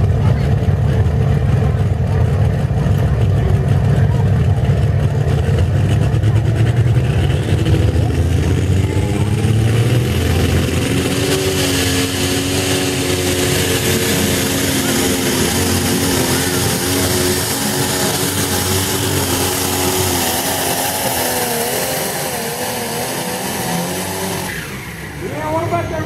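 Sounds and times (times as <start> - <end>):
tractor engine rumbling: 0.0 - 26.0.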